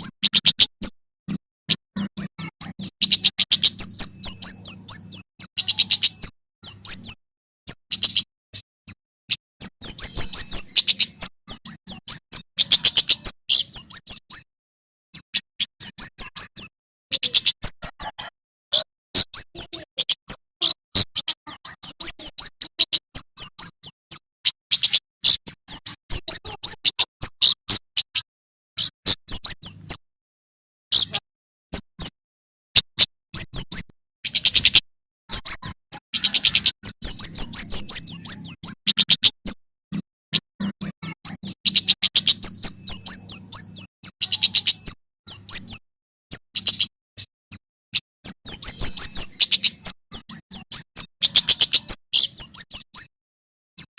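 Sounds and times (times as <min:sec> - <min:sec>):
songbird chirping rapidly: 0:00.0 - 0:14.5, 0:15.1 - 0:30.0, 0:30.9 - 0:53.1.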